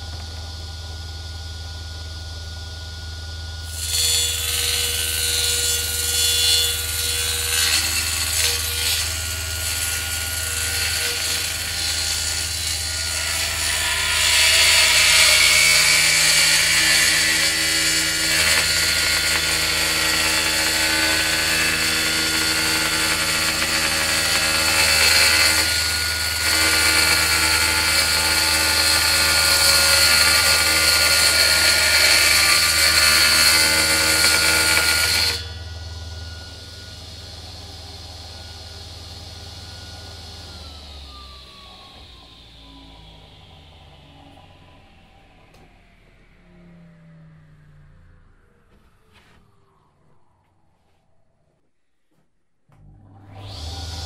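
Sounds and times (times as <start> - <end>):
table saw motor hum: 0.0 - 51.1, 52.8 - 54.0.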